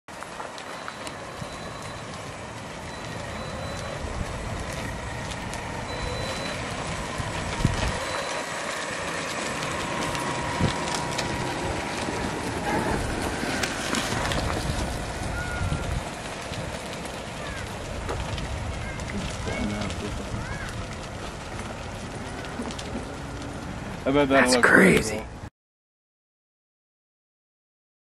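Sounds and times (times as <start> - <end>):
faint motor whine: 0.1 - 24.5
wheels rolling on gravel: 0.1 - 25.4.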